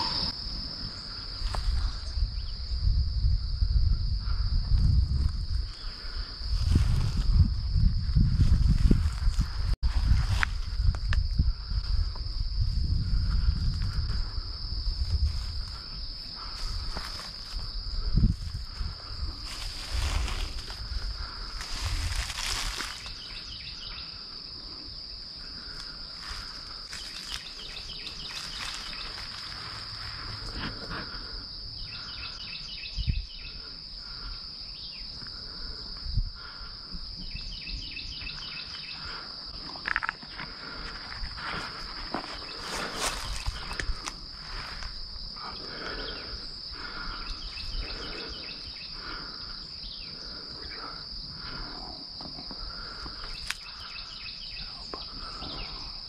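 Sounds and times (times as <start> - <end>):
insects droning: 0.0 - 56.0
lower insect calls: 0.0 - 56.0.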